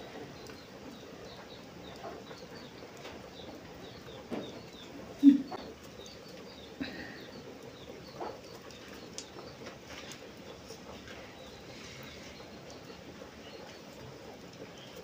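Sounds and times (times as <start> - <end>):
faint birds chirping: 0.0 - 15.0
low steady background noise: 0.0 - 15.0.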